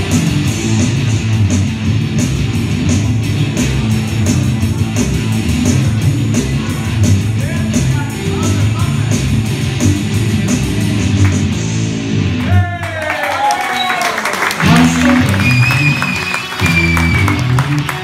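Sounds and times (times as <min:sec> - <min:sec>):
live rock band playing: 0:00.0 - 0:12.6, 0:14.6 - 0:18.0.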